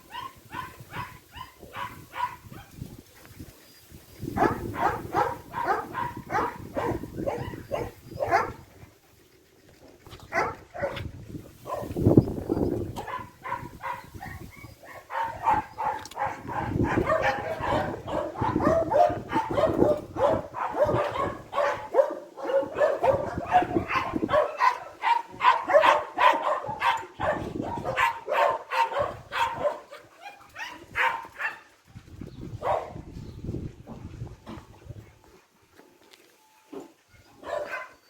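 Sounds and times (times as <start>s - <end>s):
dogs barking and yipping: 0.0s - 33.1s, 36.8s - 38.0s.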